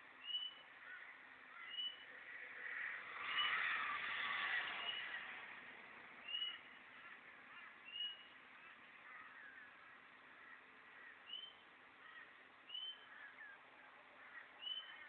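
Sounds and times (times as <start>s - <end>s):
wild birds calling: 0.0s - 3.8s, 6.2s - 15.0s.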